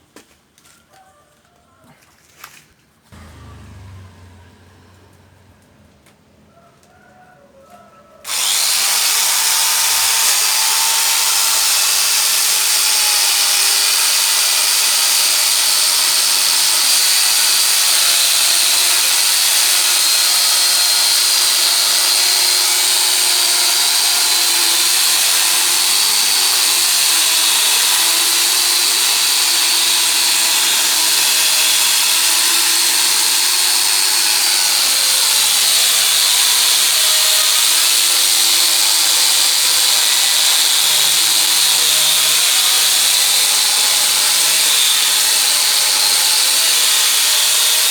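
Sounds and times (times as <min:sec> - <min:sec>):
grinder chainsaw cutting wood: 0:03.1 - 0:06.2, 0:08.2 - 0:47.9.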